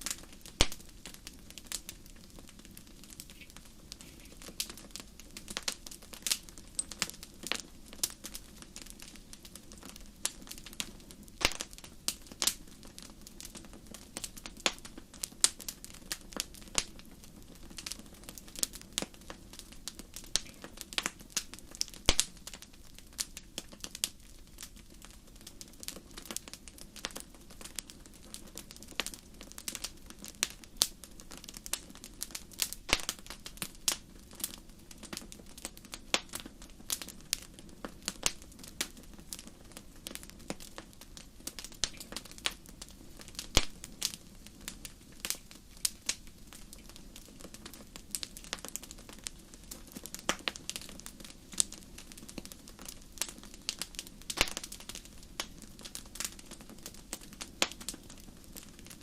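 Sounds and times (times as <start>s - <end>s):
low rush of flame: 0.0s - 59.0s
wood fire crackling and popping: 0.0s - 59.0s.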